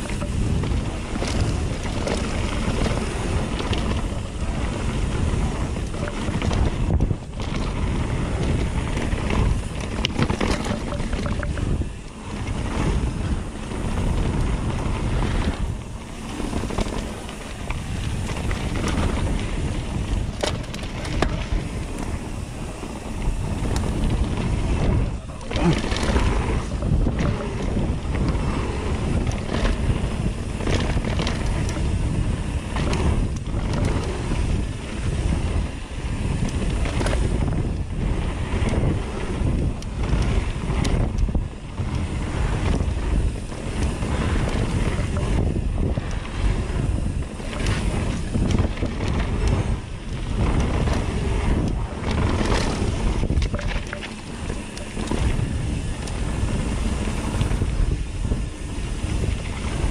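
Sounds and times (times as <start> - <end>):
bike knocks and rattles: 0.0 - 59.9
bike tyre rumble on dirt: 0.0 - 59.9
wind on microphone: 0.0 - 59.9.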